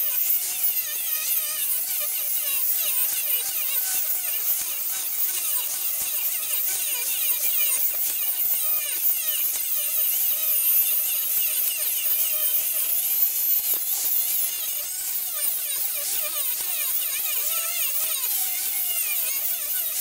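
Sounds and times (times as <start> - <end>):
angle grinder grinding steel: 0.0 - 20.0.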